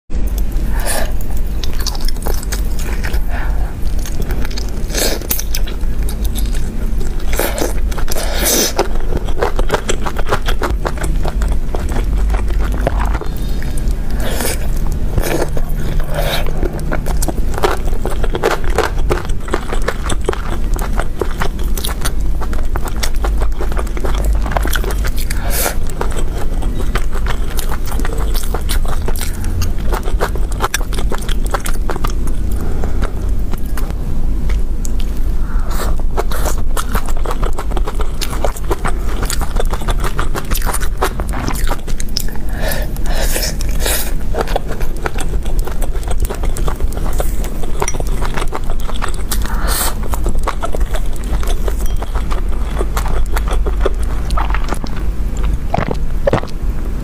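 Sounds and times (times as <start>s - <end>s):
steady low hum: 0.1s - 57.0s
biting and chewing with mouth clicks: 0.2s - 57.0s.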